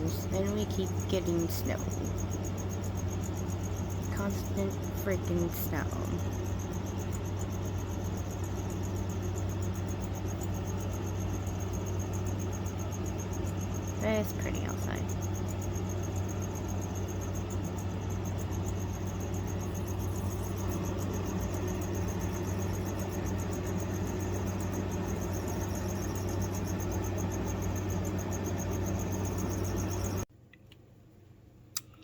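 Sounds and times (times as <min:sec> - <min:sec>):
air conditioner fan hum: 0:00.0 - 0:32.0.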